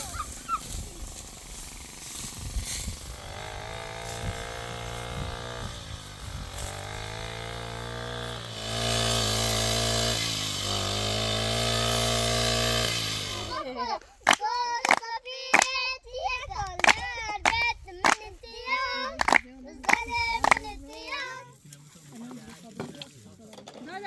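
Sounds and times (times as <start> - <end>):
small engine running: 0.0 - 15.0, 16.4 - 21.2.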